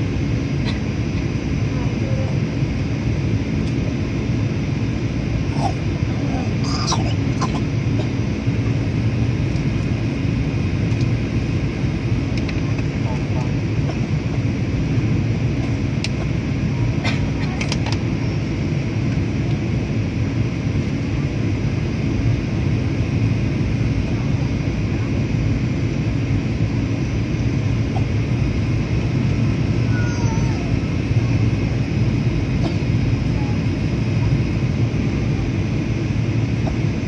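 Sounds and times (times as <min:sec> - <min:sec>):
airliner cabin engine noise: 0:00.0 - 0:37.0.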